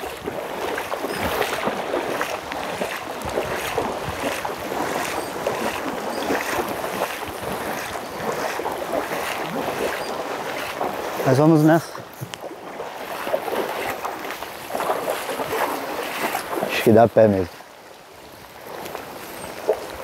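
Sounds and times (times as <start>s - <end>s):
footsteps sloshing through water: 0.0s - 20.0s.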